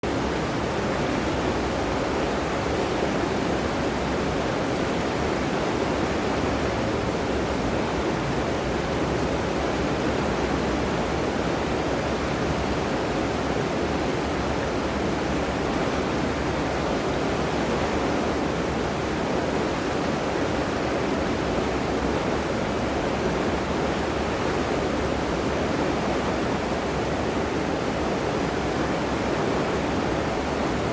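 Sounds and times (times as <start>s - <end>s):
river water rushing: 0.0s - 30.9s.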